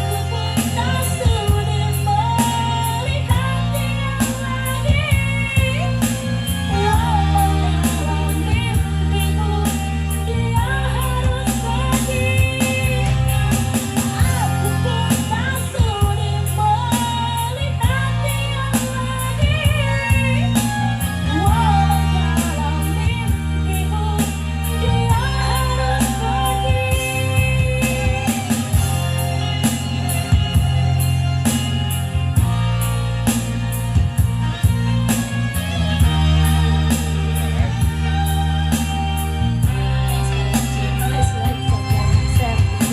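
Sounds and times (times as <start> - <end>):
backing music with drums and bass: 0.0 - 42.9
woman singing pop melody: 0.0 - 42.9.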